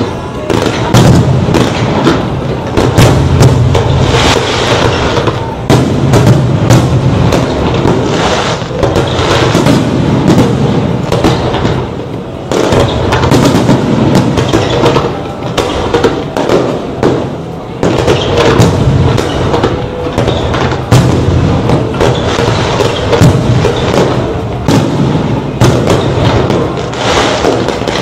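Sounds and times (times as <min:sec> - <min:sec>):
fireworks bangs and booms: 0:00.0 - 0:28.0
fireworks crackling: 0:00.0 - 0:28.0.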